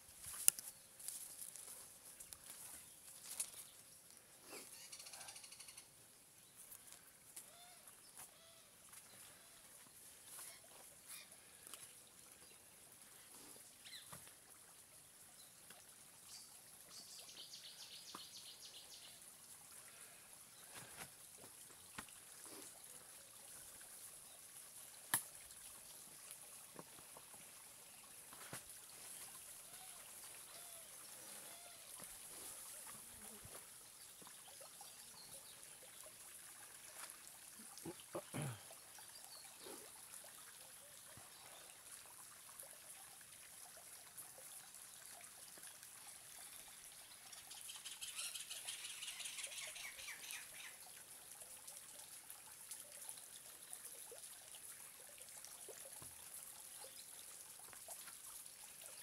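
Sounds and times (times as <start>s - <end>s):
faint trickling water: 0.0s - 59.0s.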